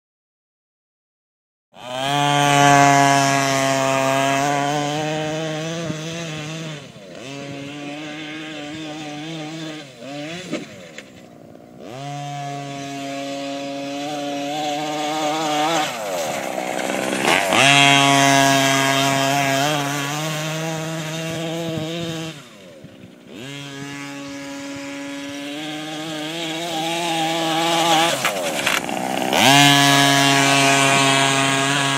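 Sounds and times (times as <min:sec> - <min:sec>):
toy truck motor buzzing: 0:01.8 - 0:31.9.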